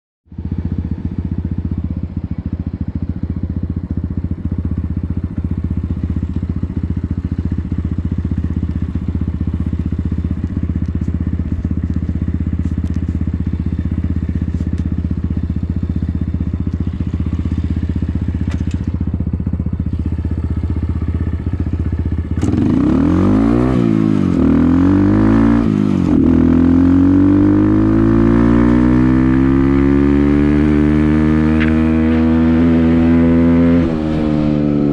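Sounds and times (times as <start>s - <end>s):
motorcycle engine idling and revving: 0.3s - 34.9s.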